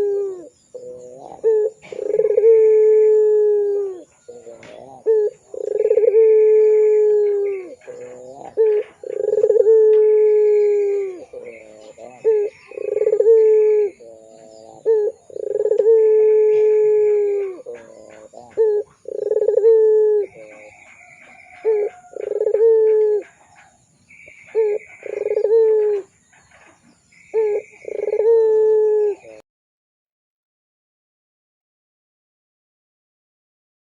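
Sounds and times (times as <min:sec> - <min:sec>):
dove cooing: 0:00.0 - 0:29.4.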